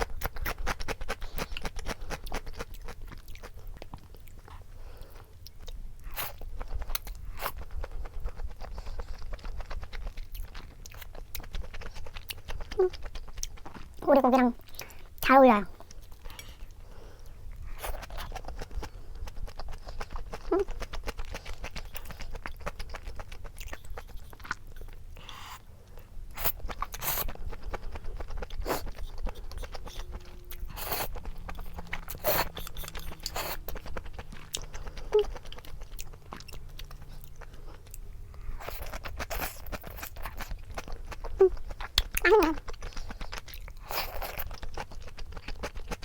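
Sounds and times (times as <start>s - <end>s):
person chewing crunchy food: 0.0s - 14.0s, 15.8s - 46.0s.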